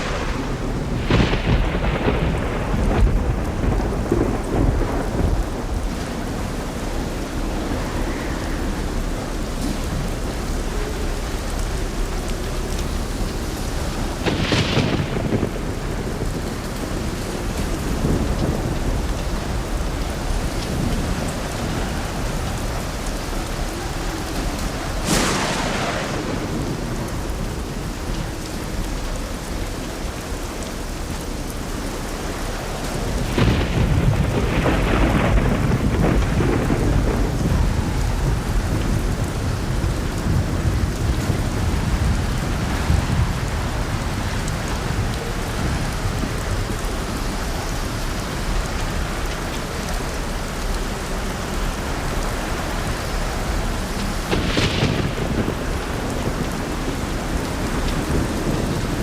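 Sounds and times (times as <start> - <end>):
sharp thunderclap: 0.0 - 29.7, 33.1 - 50.3, 52.8 - 59.0
heavy rain falling: 0.0 - 59.0
rolling rumble of thunder: 0.0 - 59.0.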